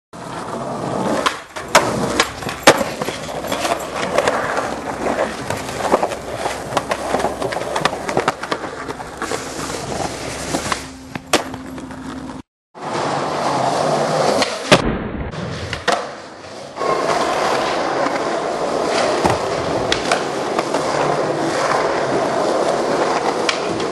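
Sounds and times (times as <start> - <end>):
skateboard clacking on ground: 0.2 - 12.4, 15.7 - 23.9
skateboard wheels rolling on concrete: 0.2 - 14.8, 15.4 - 23.9.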